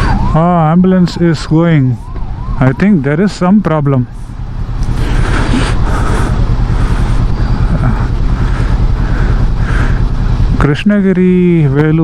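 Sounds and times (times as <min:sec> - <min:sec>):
road and wind noise: 0:00.0 - 0:12.0
motorcycle engine running: 0:02.0 - 0:12.0.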